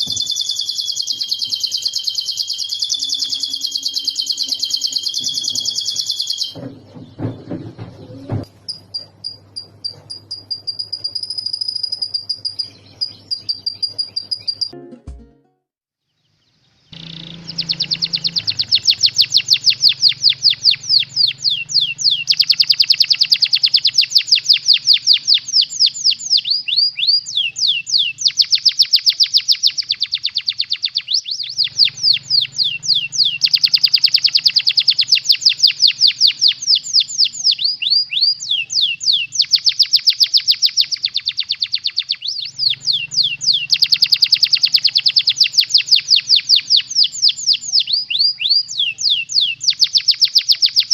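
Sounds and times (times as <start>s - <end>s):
canary trilling: 0.0s - 14.8s, 16.2s - 50.9s.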